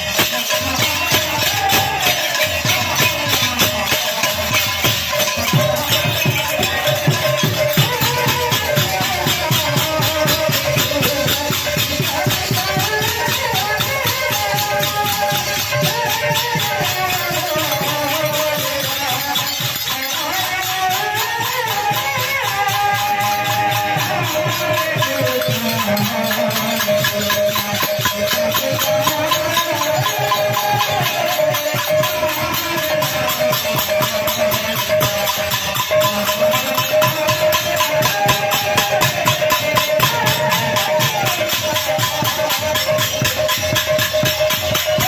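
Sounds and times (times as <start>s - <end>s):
cymbals jingling: 0.0s - 45.0s
fast drumming: 0.0s - 45.0s.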